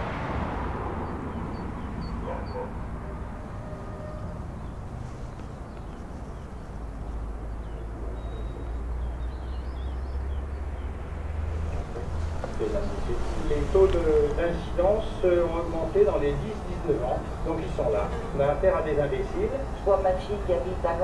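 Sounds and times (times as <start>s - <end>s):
car passing: 0.0s - 21.0s
small birds chirping: 1.0s - 21.0s.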